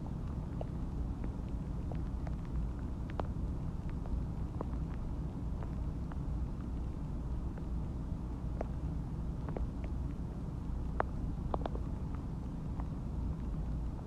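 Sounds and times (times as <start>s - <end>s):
gurgling pops and clicks: 0.0s - 14.0s
stomach rumbling: 0.0s - 14.0s.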